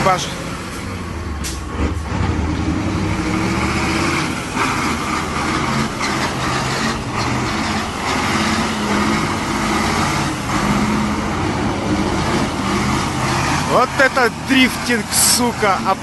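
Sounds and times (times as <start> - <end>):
truck diesel engine revving: 0.0 - 16.0.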